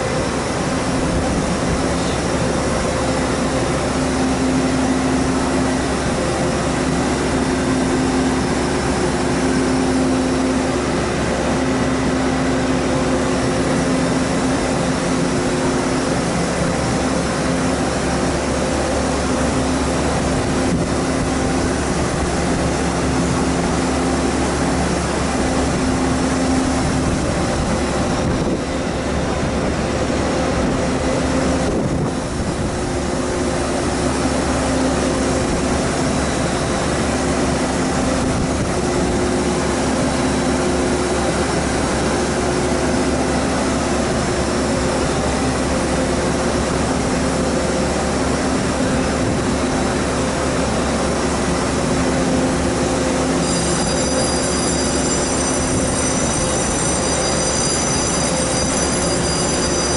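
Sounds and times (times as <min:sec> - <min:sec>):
electric trains humming: 0:00.0 - 0:59.9
thin high whine: 0:00.0 - 0:59.9.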